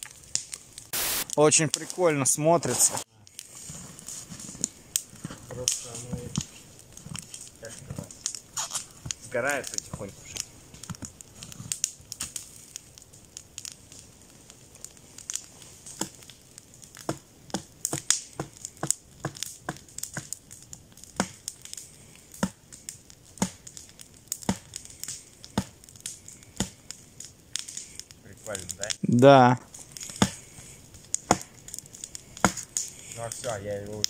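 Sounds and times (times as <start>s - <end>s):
stick striking burning log: 0.0s - 29.0s, 29.6s - 34.0s
campfire crackling and popping: 0.0s - 34.0s.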